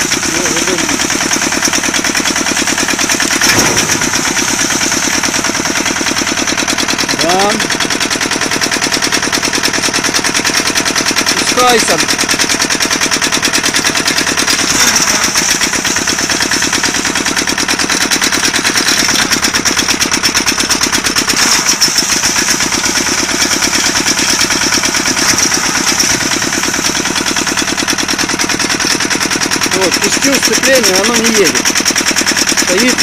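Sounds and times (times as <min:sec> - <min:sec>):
diesel engine clattering: 0:00.0 - 0:33.0.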